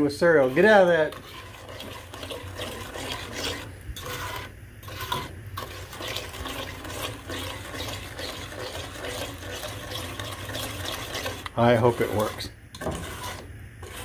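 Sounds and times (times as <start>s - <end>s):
spatula stirring thick mixture: 0.0s - 14.0s
steady low hum: 0.0s - 14.0s.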